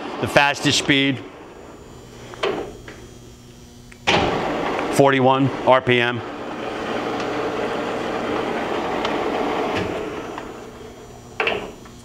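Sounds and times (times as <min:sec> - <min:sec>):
grinder drive gearing running: 0:00.0 - 0:12.0.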